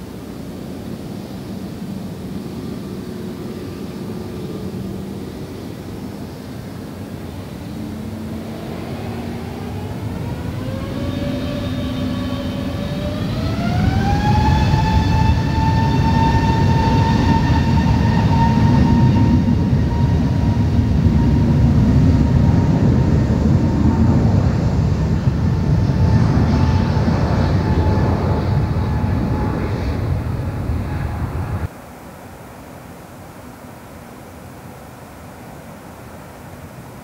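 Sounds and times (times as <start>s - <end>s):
jet engines spooling up: 0.0s - 31.7s.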